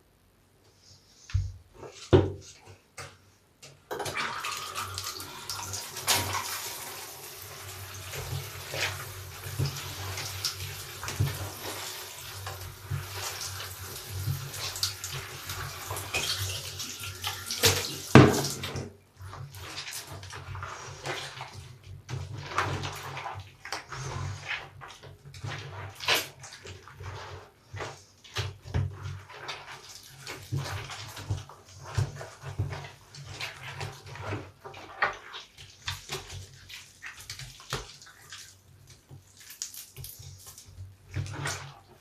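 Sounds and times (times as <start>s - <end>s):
running water: 3.9s - 42.0s
sponge squelching: 4.2s - 42.0s.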